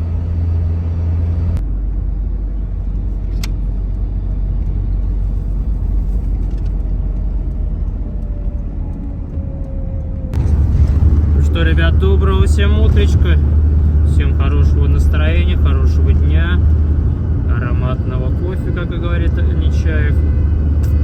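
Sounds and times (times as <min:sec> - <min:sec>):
van engine rumble from inside: 0:00.0 - 0:21.0.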